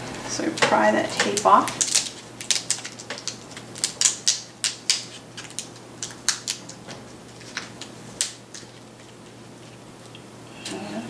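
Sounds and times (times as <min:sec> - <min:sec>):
sticky tape peeling crackles: 0:00.5 - 0:10.2.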